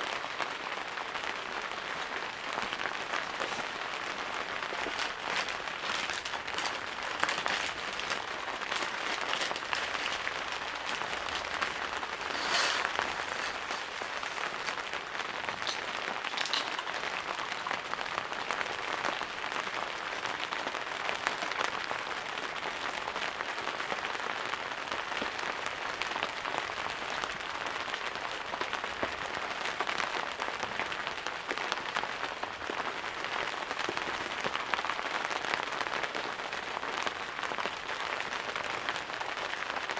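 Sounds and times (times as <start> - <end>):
rain drops hitting a surface: 0.0 - 39.9.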